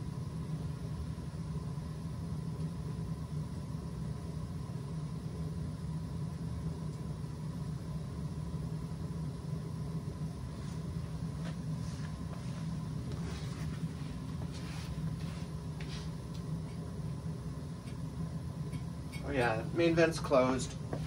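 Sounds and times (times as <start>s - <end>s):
boiler burner rumbling: 0.0s - 21.0s.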